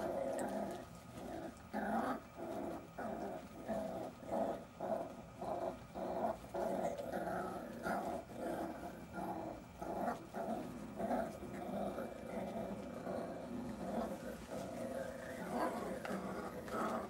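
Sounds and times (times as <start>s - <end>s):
puppies growling in play: 0.0s - 17.0s.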